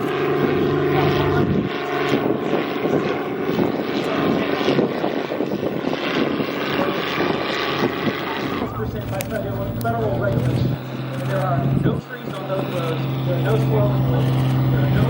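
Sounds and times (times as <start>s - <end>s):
propeller airplane passing: 0.0s - 15.0s.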